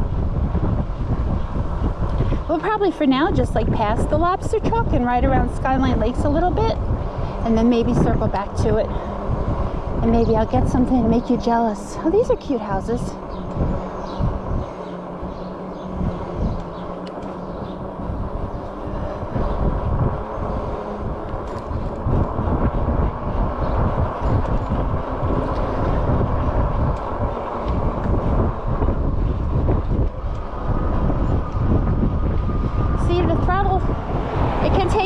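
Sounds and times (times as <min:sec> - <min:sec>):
tyre and motor noise: 0:00.0 - 0:35.0
wind rumbling on microphone: 0:00.0 - 0:35.0.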